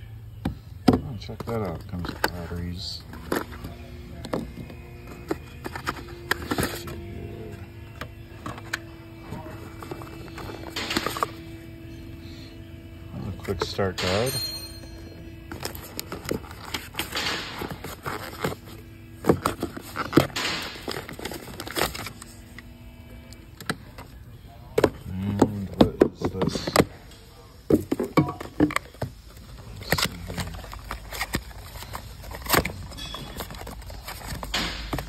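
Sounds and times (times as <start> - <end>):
packaging rustling and scraping: 1.2 - 27.0, 27.6 - 35.0.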